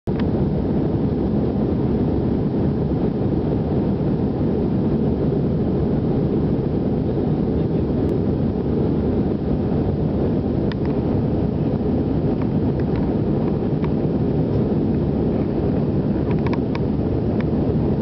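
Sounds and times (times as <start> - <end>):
airliner cabin roar: 0.1 - 18.0.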